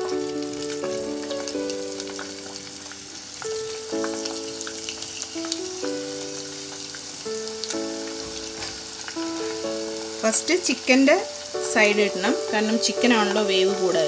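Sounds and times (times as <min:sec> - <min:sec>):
background music: 0:00.0 - 0:14.0
chicken deep-frying in oil: 0:00.0 - 0:14.0.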